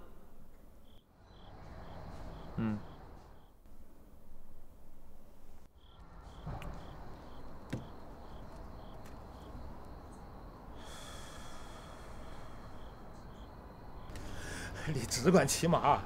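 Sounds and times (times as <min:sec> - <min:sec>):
crickets chirping: 0:00.0 - 0:03.6, 0:05.6 - 0:16.0.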